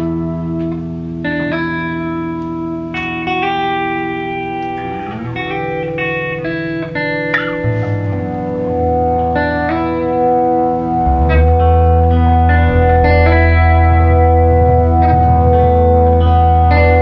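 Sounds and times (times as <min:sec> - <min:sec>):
electric guitars playing chords: 0:00.0 - 0:17.0.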